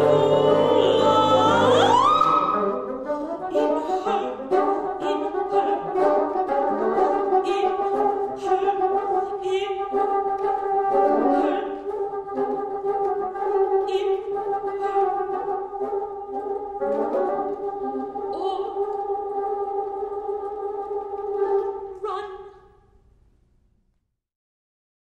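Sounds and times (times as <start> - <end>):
bassoon ensemble playing: 0.0 - 22.4
soprano singing long notes: 0.0 - 22.6.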